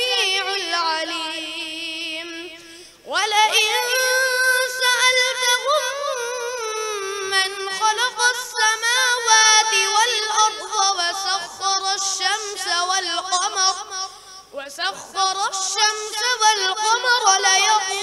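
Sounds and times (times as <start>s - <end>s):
boy chanting melodically: 0.0s - 18.0s.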